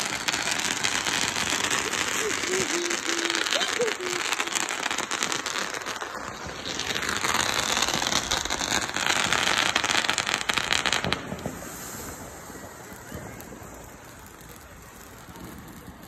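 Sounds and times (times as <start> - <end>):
fireworks crackling: 0.0 - 16.0
fountain firework hissing: 0.0 - 16.0.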